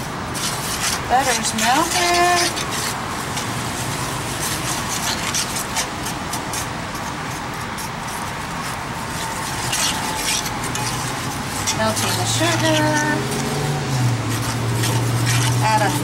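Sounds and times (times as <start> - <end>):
spoon scraping skillet: 0.4 - 16.0.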